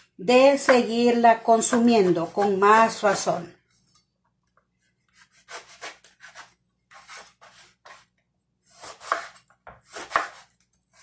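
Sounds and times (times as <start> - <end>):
knife cutting eggplant: 0.0 - 3.3, 5.0 - 11.0.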